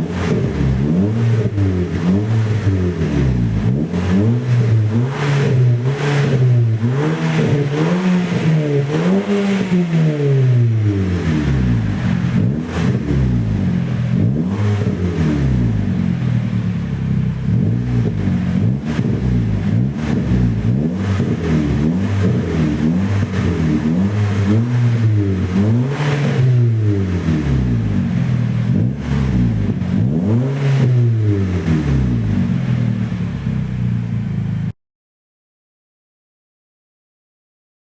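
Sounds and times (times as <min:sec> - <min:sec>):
car engine revving: 0:00.0 - 0:34.7.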